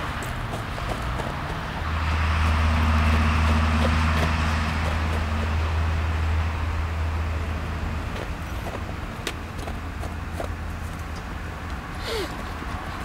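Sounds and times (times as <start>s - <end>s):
broad rushing noise: 0.0s - 13.0s
engine humming: 0.0s - 13.0s.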